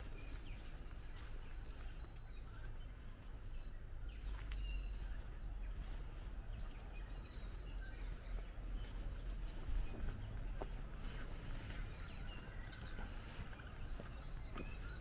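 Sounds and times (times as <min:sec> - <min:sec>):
birds chirping: 0:00.0 - 0:15.0
footsteps on path: 0:00.0 - 0:15.0
low rumble of wind: 0:00.0 - 0:15.0.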